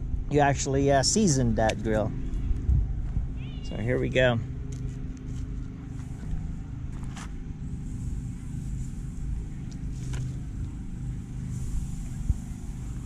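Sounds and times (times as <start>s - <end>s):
generator engine humming: 0.0s - 13.0s.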